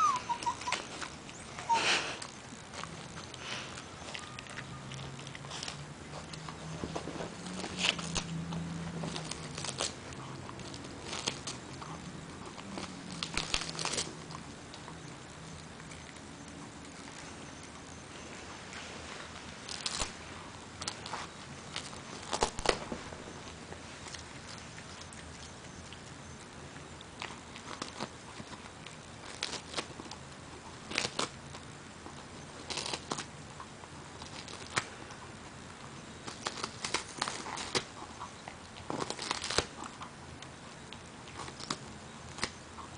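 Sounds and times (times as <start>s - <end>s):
dog gnawing on a chew: 0.0s - 42.9s.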